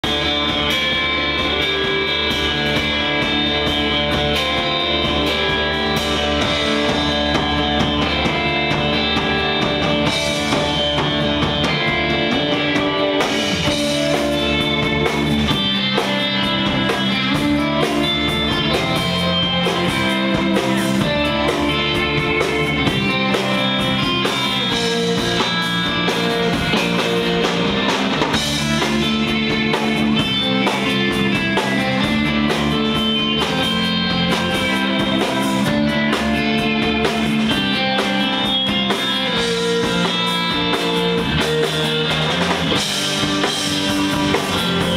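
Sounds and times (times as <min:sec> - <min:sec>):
live surf rock band: 0:00.0 - 0:44.9.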